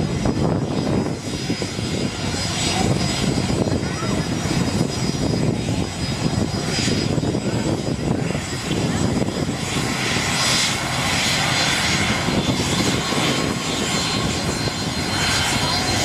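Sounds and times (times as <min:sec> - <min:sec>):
jet engines rumbling with whine: 0:00.0 - 0:16.0.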